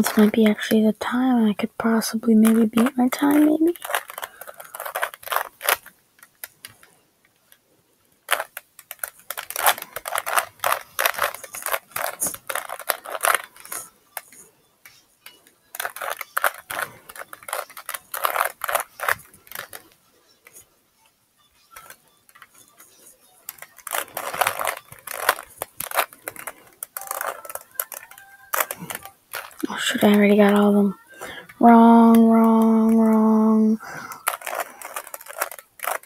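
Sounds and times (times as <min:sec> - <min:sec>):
puzzle cube plastic clicking: 0:00.0 - 0:07.6, 0:08.3 - 0:20.7, 0:21.7 - 0:36.0.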